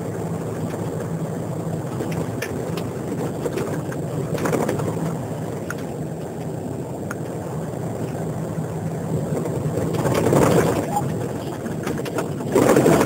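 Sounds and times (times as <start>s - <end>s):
engine hum and road rumble: 0.0s - 13.0s.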